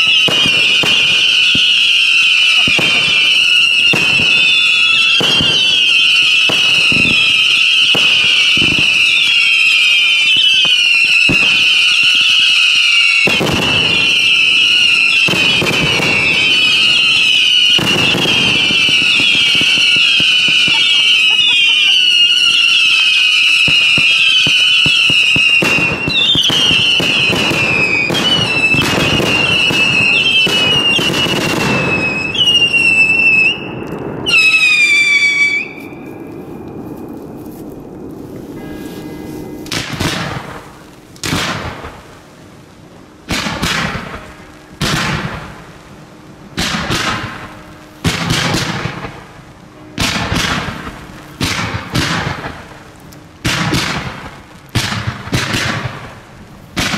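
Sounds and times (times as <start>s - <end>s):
fireworks bangs and crackle: 0.0s - 56.9s
fireworks whistling: 0.0s - 56.9s.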